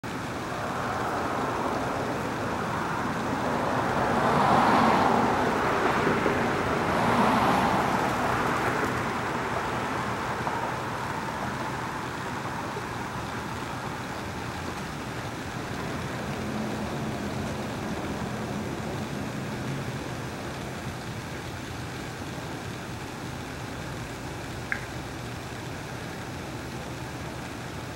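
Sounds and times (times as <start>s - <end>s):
hum of passing cars: 0.0s - 27.9s.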